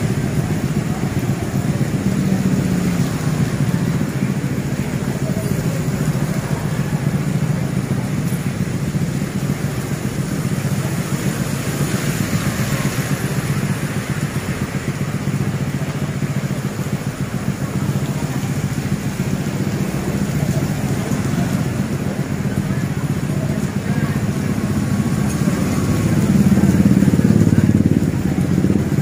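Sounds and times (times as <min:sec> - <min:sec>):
engine idling: 0:00.0 - 0:29.0
heavy rain on wet street: 0:00.0 - 0:29.0
motor scooter passing: 0:00.0 - 0:29.0.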